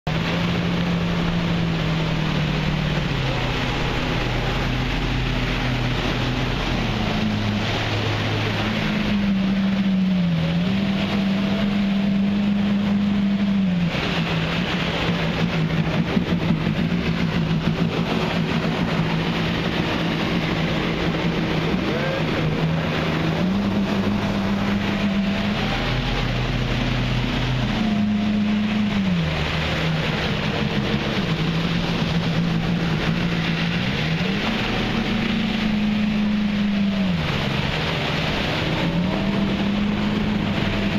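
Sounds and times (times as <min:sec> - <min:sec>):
marine engine running: 0:00.0 - 0:40.9.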